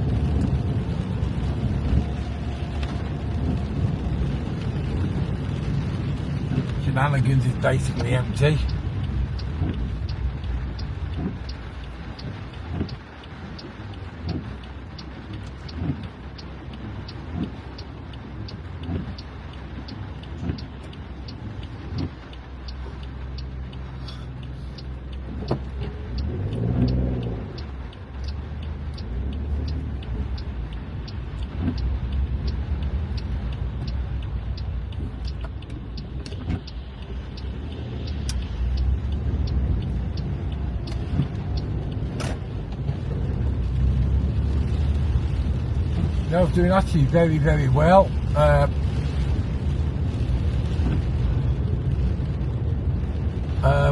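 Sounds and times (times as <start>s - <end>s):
even ticking: 0.0s - 53.9s
low car rumble: 0.0s - 53.9s.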